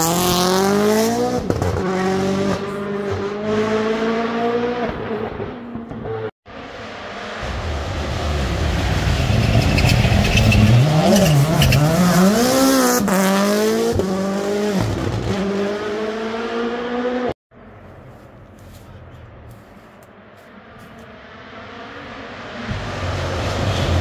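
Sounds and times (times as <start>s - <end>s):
rally car engine passing: 0.0s - 17.8s, 20.3s - 24.0s.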